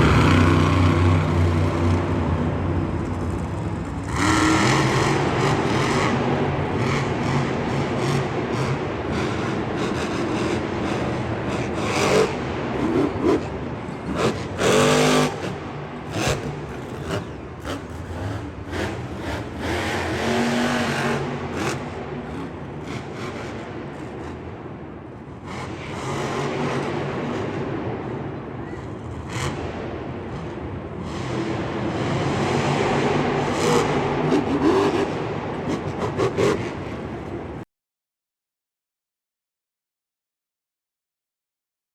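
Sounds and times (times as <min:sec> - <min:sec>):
monster truck engines revving: 0:00.0 - 0:37.6.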